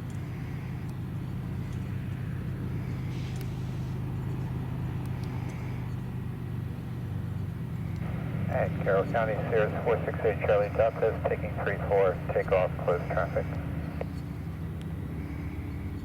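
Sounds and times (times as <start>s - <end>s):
piston engine droning: 0.0s - 16.0s.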